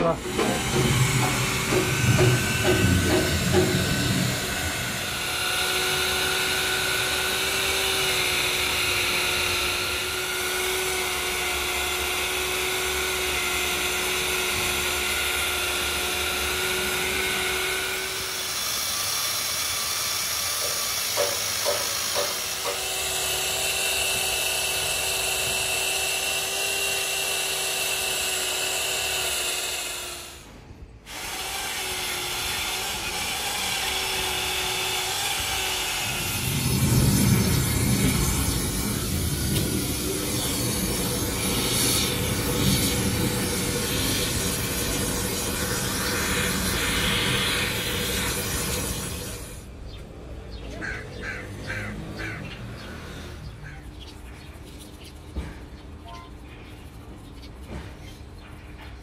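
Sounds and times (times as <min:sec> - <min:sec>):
buffing wheel grinding rubber: 0:00.0 - 0:49.7
electric drill motor whine: 0:00.0 - 0:49.7.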